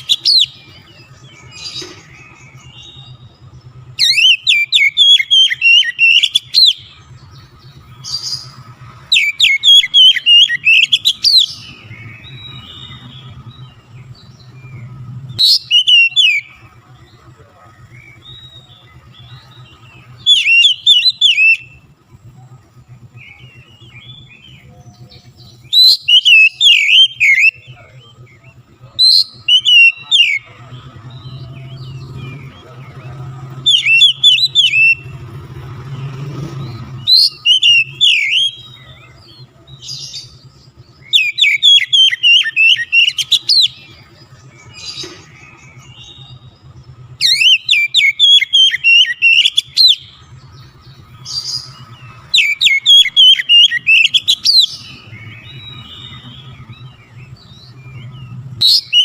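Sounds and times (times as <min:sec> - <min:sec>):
bird singing whistled chattering notes: 0:00.0 - 0:59.0.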